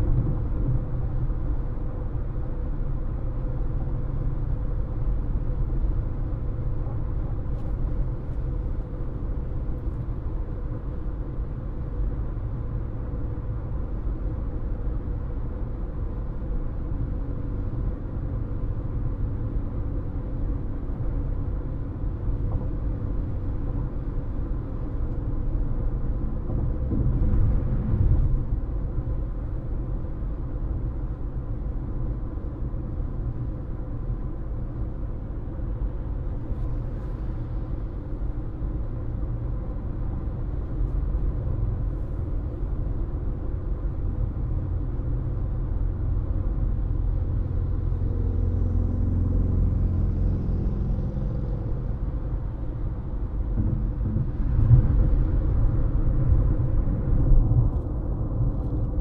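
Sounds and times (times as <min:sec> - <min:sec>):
car interior road noise: 0:00.0 - 0:59.0.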